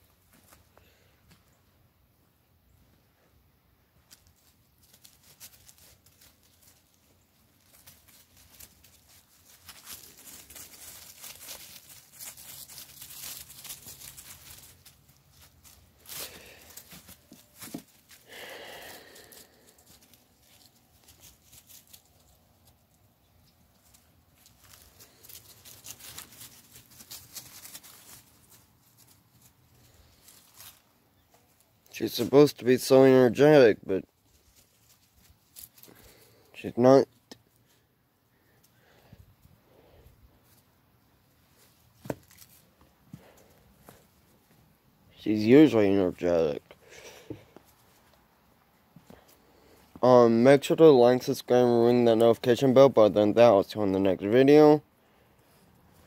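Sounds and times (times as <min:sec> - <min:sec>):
dry leaves crackling underfoot: 0:03.9 - 0:52.4.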